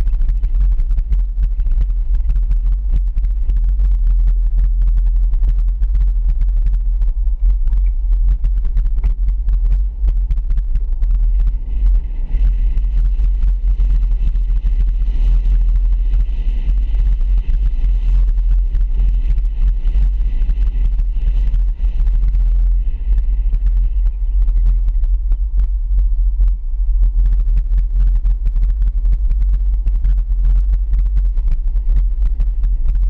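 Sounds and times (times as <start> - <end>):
faint higher hum: 0.0 - 33.0
vehicle engine and road rumble: 0.0 - 33.0.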